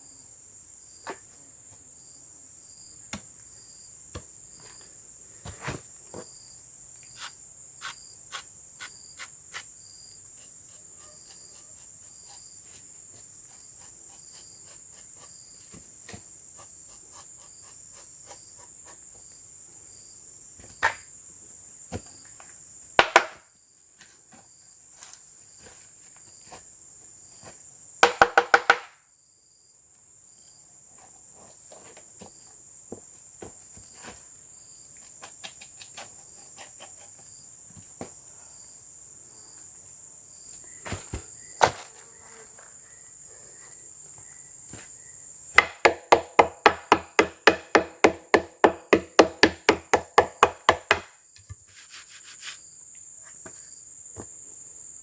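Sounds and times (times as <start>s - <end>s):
crickets chirring: 0.0s - 55.0s.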